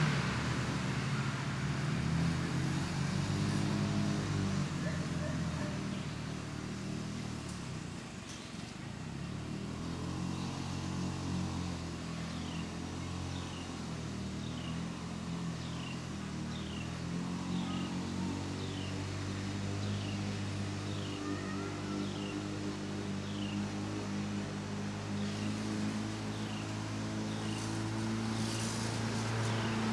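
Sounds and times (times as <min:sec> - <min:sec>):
lawn mower engine cutting grass: 0:00.0 - 0:29.9.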